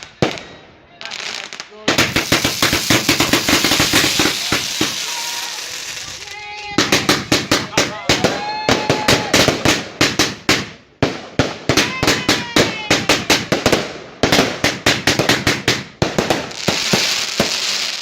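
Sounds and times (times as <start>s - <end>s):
firework bangs: 0.0s - 18.0s.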